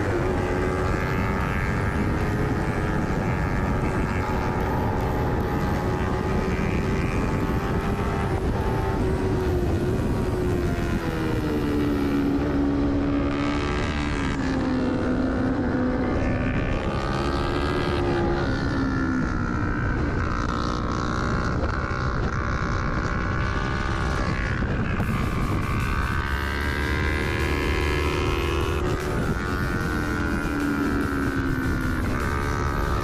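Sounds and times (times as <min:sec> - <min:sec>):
motorcycle engine at race pace: 0:00.0 - 0:33.0.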